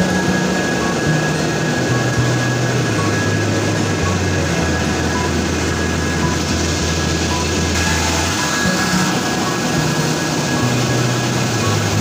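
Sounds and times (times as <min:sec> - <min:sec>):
factory machinery rushing and humming: 0:00.0 - 0:12.0.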